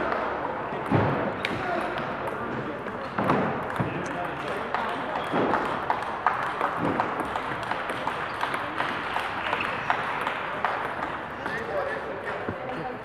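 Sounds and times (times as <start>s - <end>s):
hall background noise: 0.0s - 13.0s
table tennis balls clicking: 0.1s - 12.6s.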